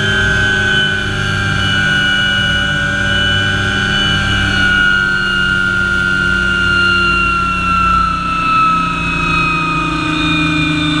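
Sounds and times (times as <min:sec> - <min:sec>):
helicopter turbine whine: 0:00.0 - 0:11.0.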